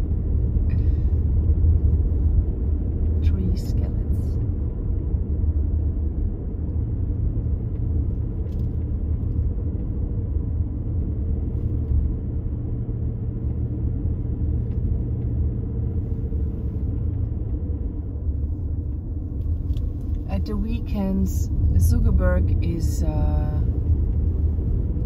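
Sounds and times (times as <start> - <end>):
car cabin engine and tyre rumble: 0.0 - 25.0.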